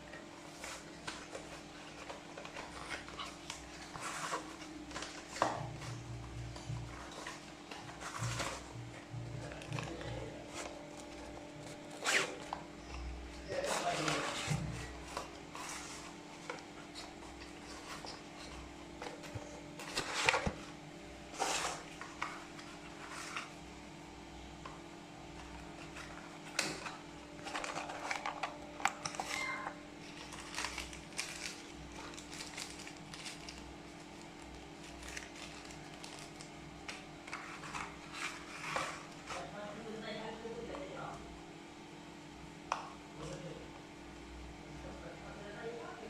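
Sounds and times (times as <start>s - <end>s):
low electrical hum: 0.0s - 46.0s
packaging rustling: 0.5s - 23.6s, 25.4s - 39.5s.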